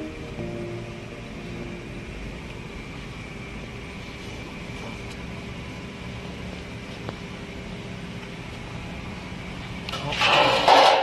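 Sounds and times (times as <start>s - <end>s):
factory machinery hiss and hum: 0.0s - 11.0s.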